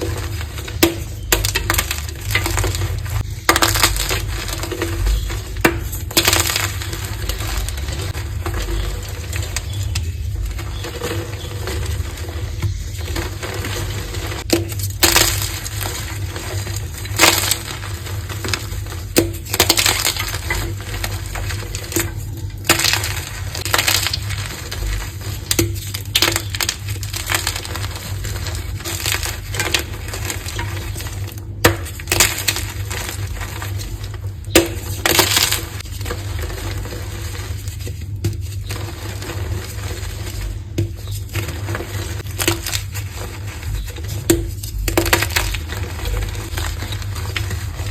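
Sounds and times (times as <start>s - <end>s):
chalk balls crunching: 0.0s - 47.9s.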